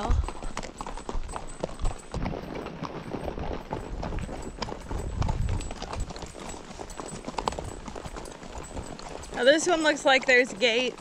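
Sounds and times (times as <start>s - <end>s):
hooves clip-clopping on dirt: 0.0s - 11.0s.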